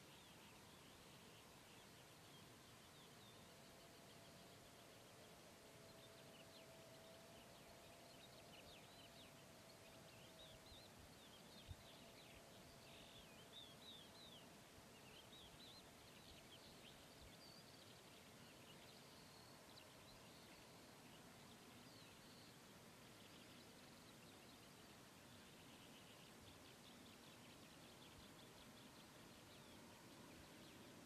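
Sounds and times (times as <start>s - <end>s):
faint bird chirps: 0.0s - 31.0s
faint steady hiss: 0.0s - 31.0s.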